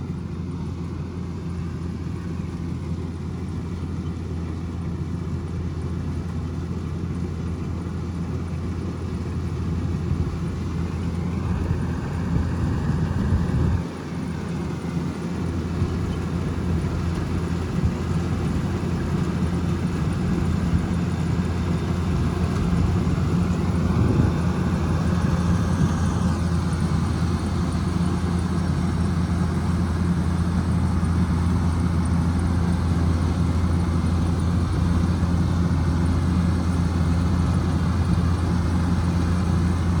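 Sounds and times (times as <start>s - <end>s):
combine harvester engine drone: 0.0s - 40.0s.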